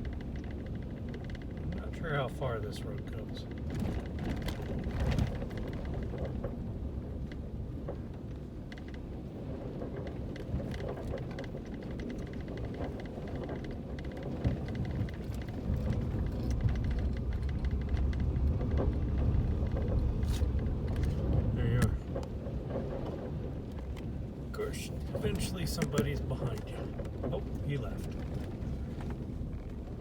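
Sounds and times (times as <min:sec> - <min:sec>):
road rumble inside vehicle cab: 0:00.0 - 0:30.0.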